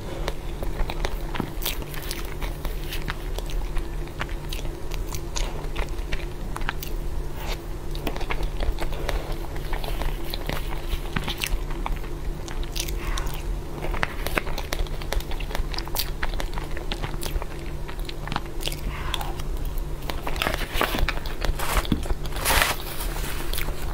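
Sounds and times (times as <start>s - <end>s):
low steady hum: 0.0s - 23.9s
mouth chewing and smacking: 0.1s - 23.9s.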